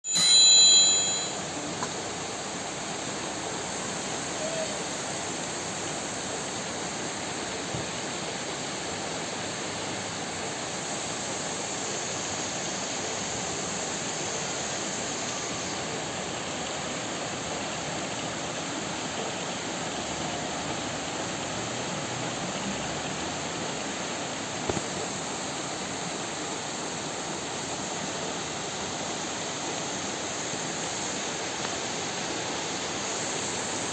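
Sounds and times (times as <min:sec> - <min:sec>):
heavy rain pouring: 0:01.5 - 0:33.9.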